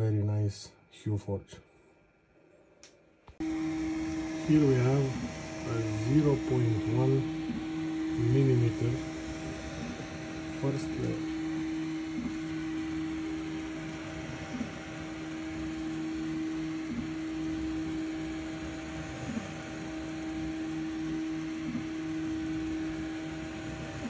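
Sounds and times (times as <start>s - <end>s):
printer mechanical hum: 3.4s - 24.0s.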